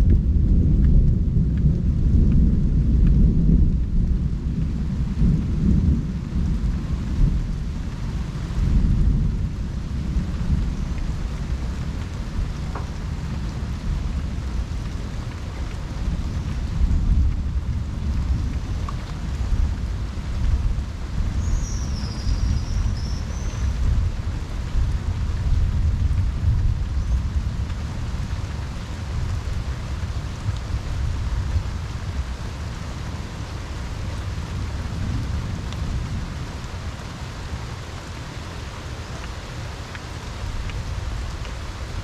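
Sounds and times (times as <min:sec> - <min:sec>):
thunder rumbling: 0:00.0 - 0:37.6
steady rain: 0:00.0 - 0:42.0.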